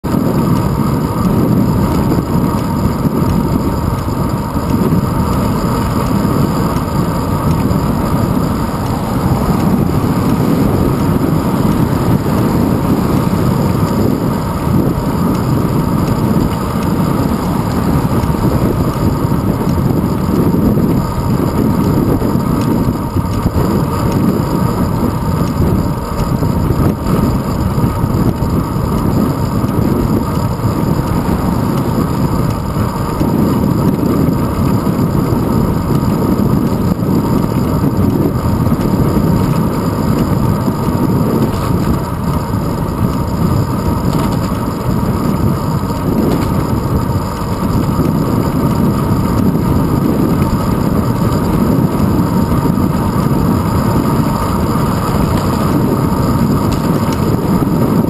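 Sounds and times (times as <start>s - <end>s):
road vibration rumble: 0.0s - 58.0s
wind rushing: 0.0s - 58.0s.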